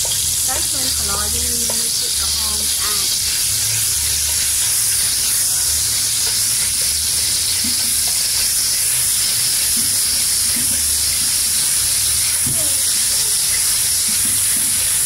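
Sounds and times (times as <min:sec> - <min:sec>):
liquid sizzling in a pot: 0:00.0 - 0:15.0.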